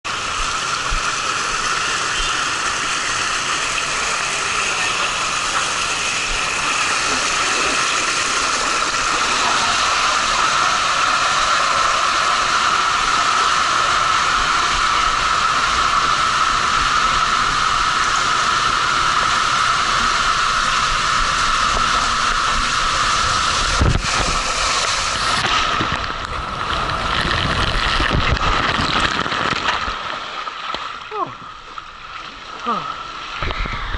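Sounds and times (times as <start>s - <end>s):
muffled churning and splashing water: 0.1s - 33.9s
water rushing through slide tube: 0.1s - 33.9s.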